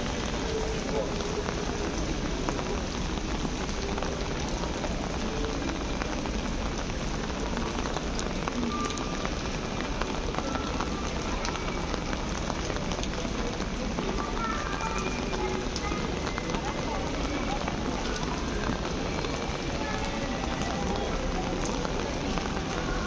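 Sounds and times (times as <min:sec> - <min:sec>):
rain on a street: 0:00.0 - 0:23.0.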